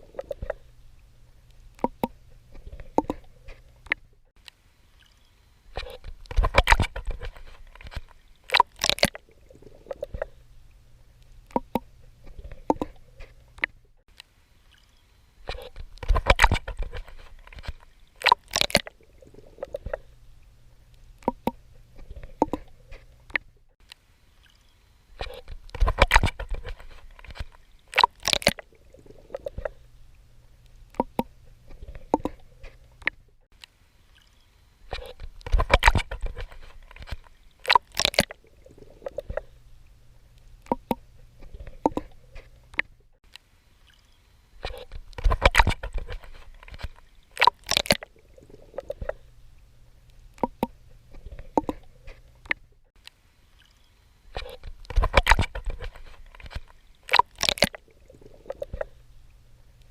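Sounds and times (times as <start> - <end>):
water splashing from swimming: 0.0 - 4.1, 4.8 - 13.8, 14.5 - 23.5, 24.2 - 33.2, 33.8 - 43.0, 43.6 - 52.6, 53.4 - 59.9
low steady hum: 0.0 - 59.9.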